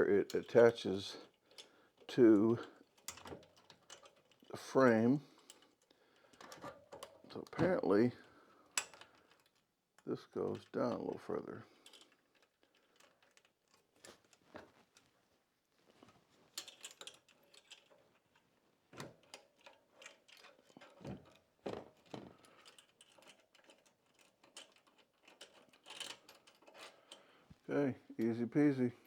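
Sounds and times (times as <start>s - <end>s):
clicks and knocks of parts handled: 0.2s - 15.2s, 15.8s - 28.4s.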